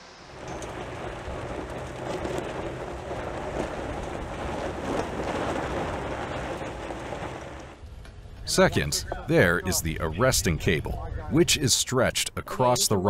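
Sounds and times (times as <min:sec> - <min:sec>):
diesel engine running: 0:00.0 - 0:10.7
low hum: 0:00.0 - 0:11.7.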